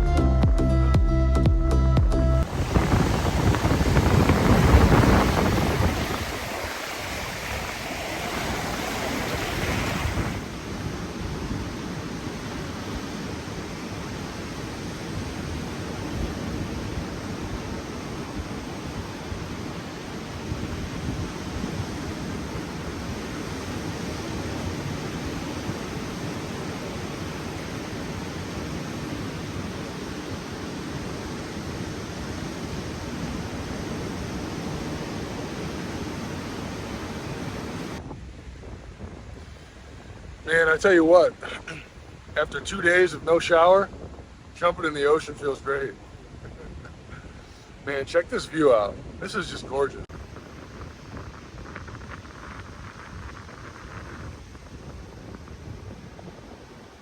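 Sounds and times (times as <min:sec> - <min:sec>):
ocean surf washing in: 0:02.4 - 0:57.0
wind buffeting microphone: 0:02.4 - 0:57.0.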